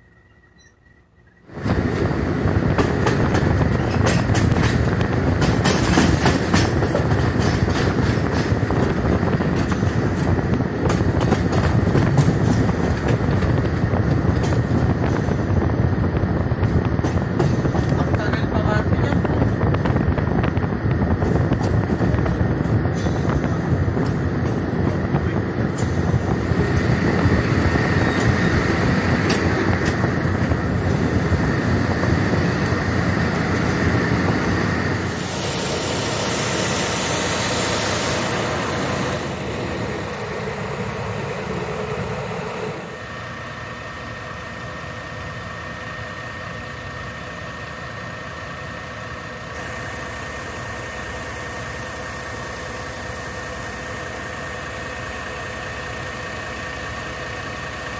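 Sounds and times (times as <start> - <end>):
locomotive engine rumble: 0.0 - 57.9
locomotive idling: 0.0 - 57.9.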